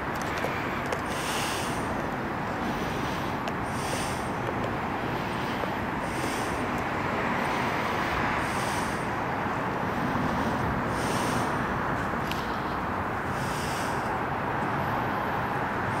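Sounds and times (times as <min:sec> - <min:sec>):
road traffic rushing: 0:00.0 - 0:16.0.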